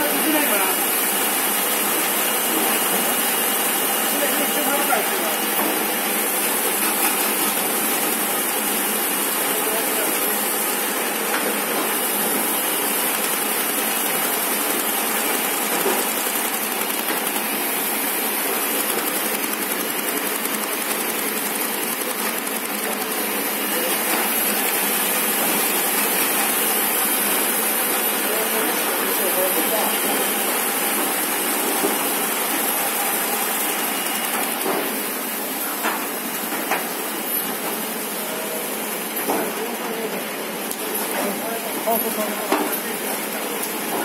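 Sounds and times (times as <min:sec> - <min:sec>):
folder gluer machine running: 0:00.0 - 0:44.0.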